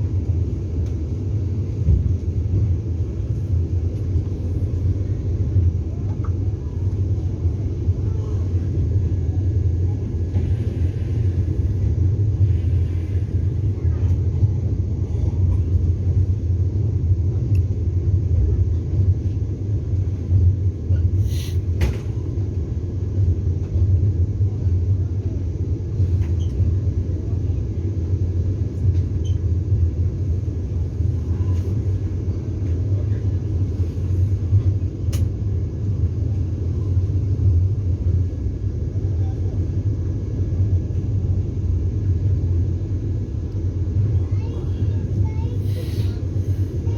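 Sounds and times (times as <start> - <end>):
train coach rumble: 0.0 - 46.9.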